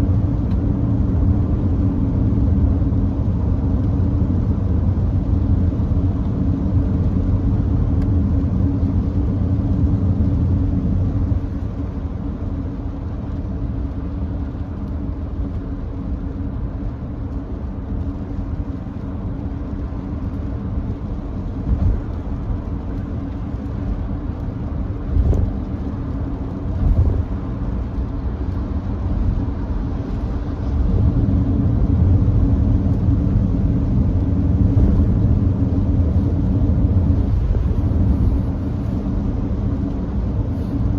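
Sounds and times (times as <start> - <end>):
road and tyre noise: 0.0 - 40.9.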